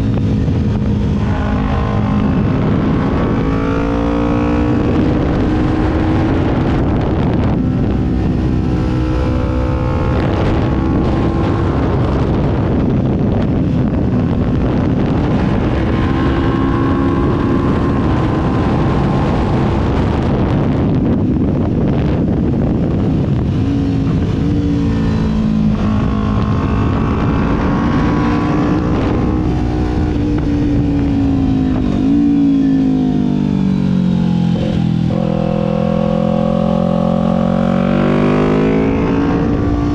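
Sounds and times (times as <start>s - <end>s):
motorcycle engine under way: 0.0s - 39.9s
wind rush: 0.0s - 39.9s.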